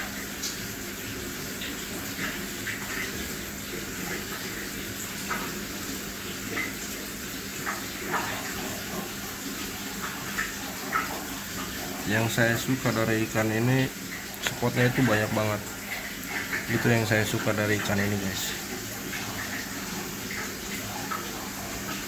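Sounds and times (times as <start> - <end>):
aquarium water trickling and bubbling: 0.0 - 22.0
small water splashes: 0.4 - 22.0.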